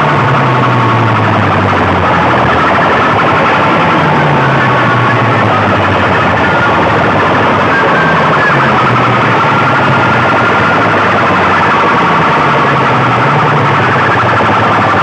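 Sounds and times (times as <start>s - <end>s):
loud electronic siren wail: 0.0s - 15.0s.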